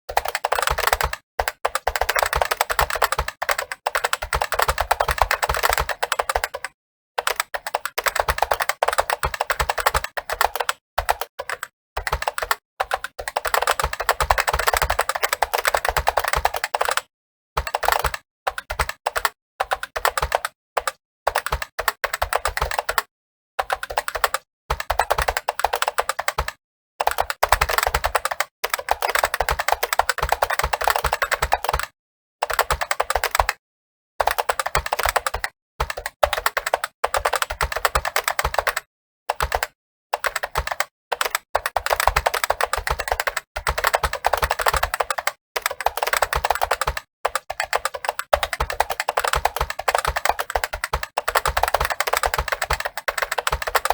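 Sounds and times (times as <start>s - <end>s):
fast typing on keyboard: 0.1s - 33.6s, 34.2s - 53.9s.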